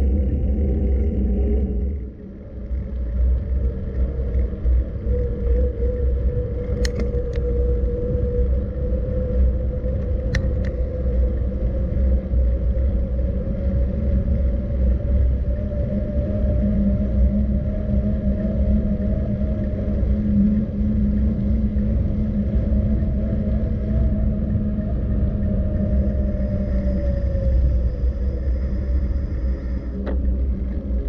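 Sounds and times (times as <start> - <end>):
faint steady hum: 0.0 - 31.0
wind and rolling rumble: 0.0 - 31.0.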